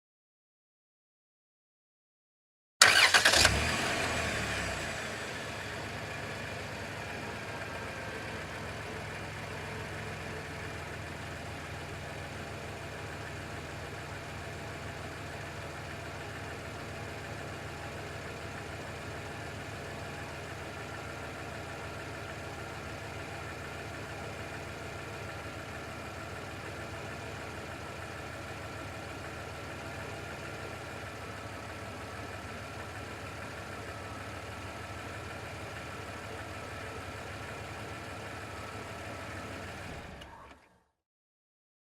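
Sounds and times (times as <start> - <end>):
car engine starting and idling: 2.8 - 40.7.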